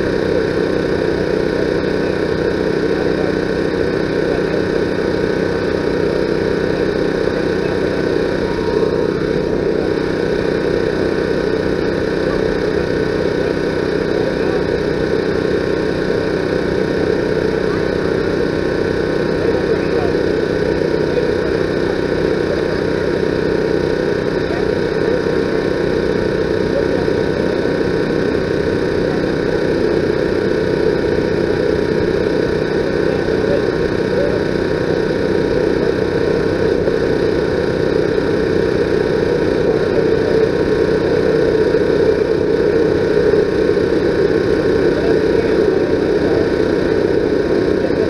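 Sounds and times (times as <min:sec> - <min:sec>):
steady mechanical hum: 0:00.0 - 0:48.0.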